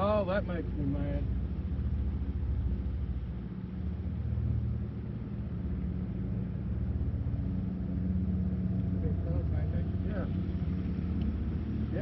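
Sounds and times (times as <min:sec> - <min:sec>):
boat engine pulsing hum: 0:00.0 - 0:12.0.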